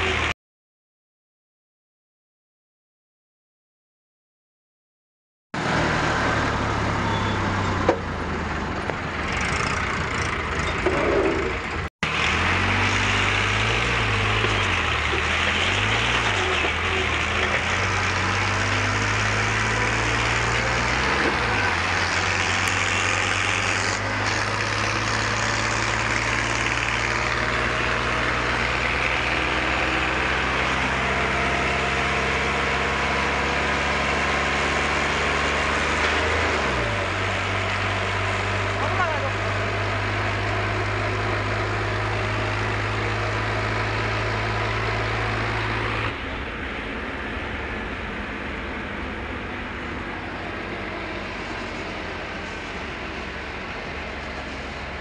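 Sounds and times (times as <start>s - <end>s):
tractor engine running: 5.6s - 55.0s
wind and road noise: 5.6s - 55.0s.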